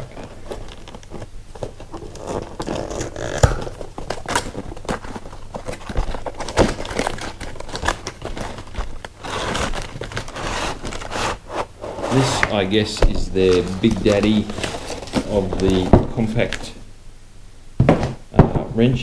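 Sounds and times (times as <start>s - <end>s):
cardboard and wrapping crinkling: 0.0s - 16.8s.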